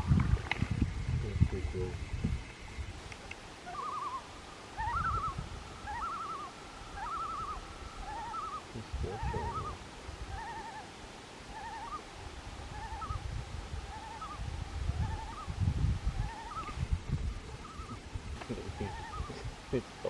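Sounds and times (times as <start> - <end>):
loons tremolo calls: 3.6 - 20.0.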